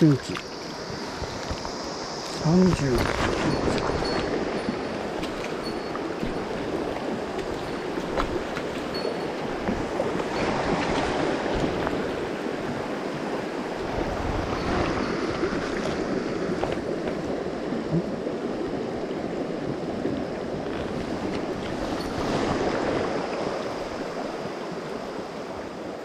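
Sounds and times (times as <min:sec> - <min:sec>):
river rushing over stones: 0:00.0 - 0:26.0.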